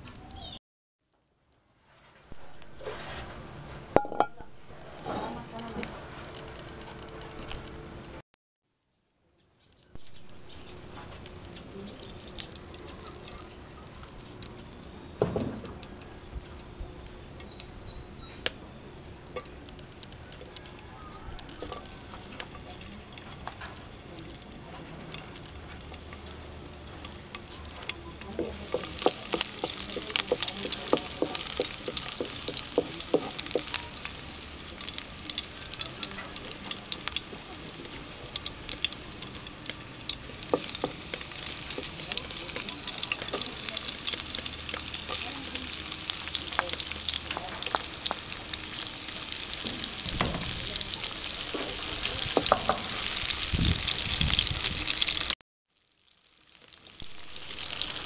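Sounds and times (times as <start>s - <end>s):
garlic sizzling in hot oil: 10.0s - 58.0s
oil ticking in a wok: 10.1s - 18.1s, 19.2s - 58.0s.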